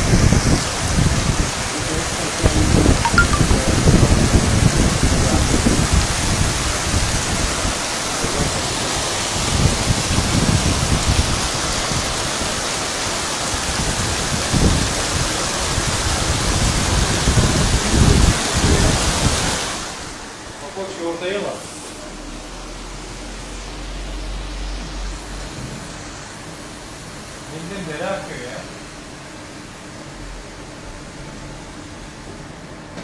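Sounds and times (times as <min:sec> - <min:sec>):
heavy rain pouring: 0:00.0 - 0:21.2, 0:22.0 - 0:28.4.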